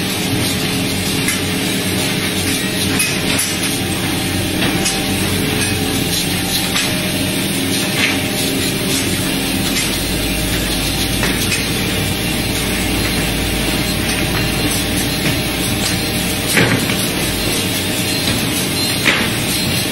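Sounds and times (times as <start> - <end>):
machine rumble and rattle: 0.0 - 19.9
deep hum: 2.0 - 19.6.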